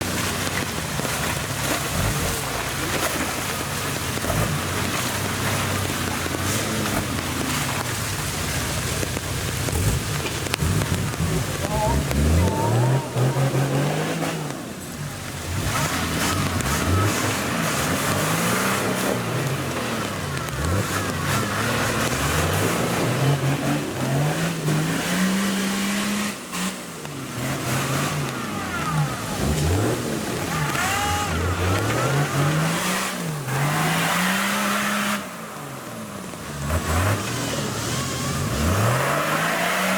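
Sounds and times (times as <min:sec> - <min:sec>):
engine running at low revs: 0:00.0 - 0:39.9
rain hissing: 0:00.0 - 0:39.9.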